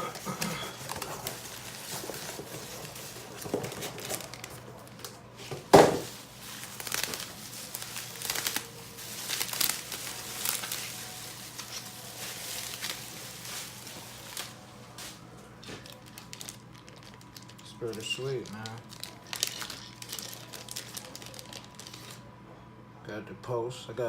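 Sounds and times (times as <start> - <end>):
packaging crinkling and tearing: 0.0 - 22.3.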